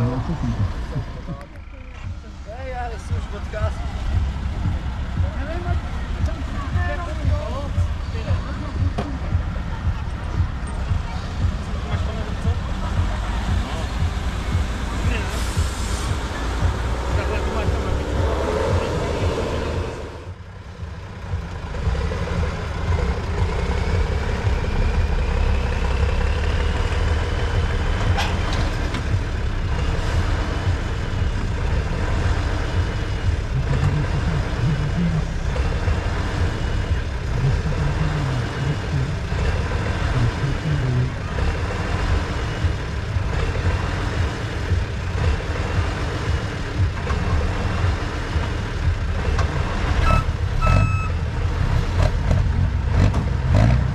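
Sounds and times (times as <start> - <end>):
heavy truck engine running: 0.0 - 53.9.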